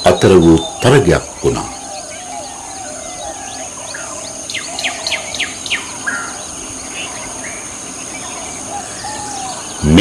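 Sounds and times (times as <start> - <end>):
high-pitched insect drone: 0.0 - 10.0
wild birds chirping: 0.0 - 10.0.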